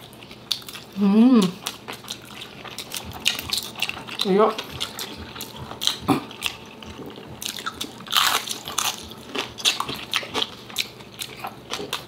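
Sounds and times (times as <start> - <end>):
crunchy food chewing: 0.0 - 12.0.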